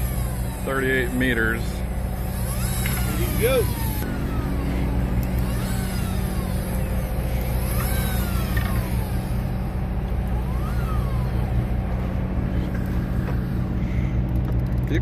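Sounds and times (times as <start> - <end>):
whine rising and falling in pitch: 0.0 - 14.8
boat engine humming: 0.0 - 15.0.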